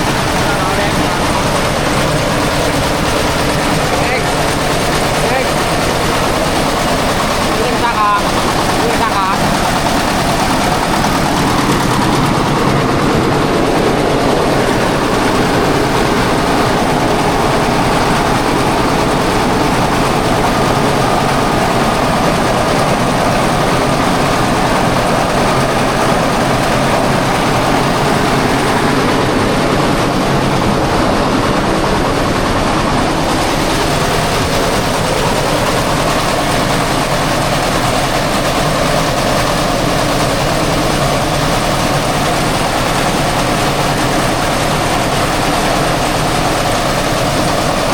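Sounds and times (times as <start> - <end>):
grain mill engine running: 0.0 - 47.9.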